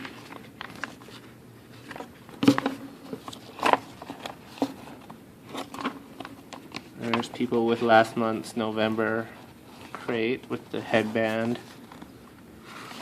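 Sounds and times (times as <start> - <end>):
magazine pages rustling: 0.0 - 13.0.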